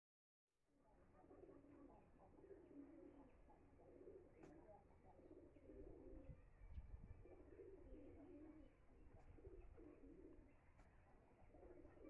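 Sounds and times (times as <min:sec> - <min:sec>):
faint dove cooing: 0:00.9 - 0:12.0.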